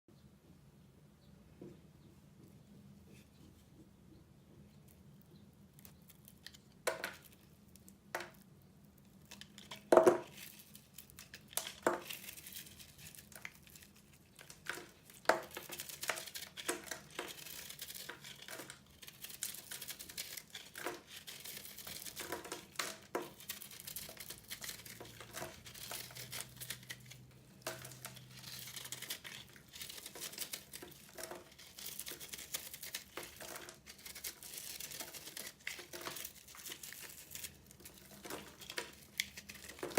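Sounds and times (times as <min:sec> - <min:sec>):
soap crunching and crackling: 0:05.6 - 0:39.9.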